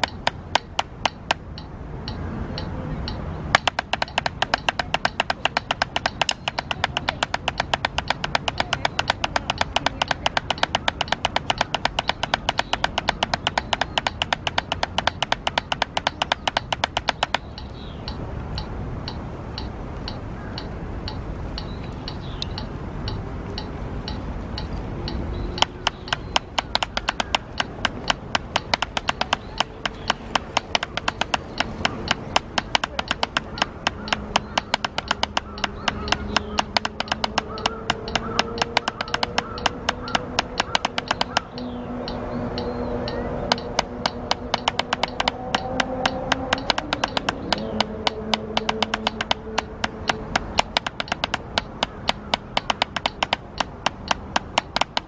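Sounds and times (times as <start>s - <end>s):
drumsticks on practice pad: 0.0s - 55.0s
metronome ticking: 0.0s - 55.0s.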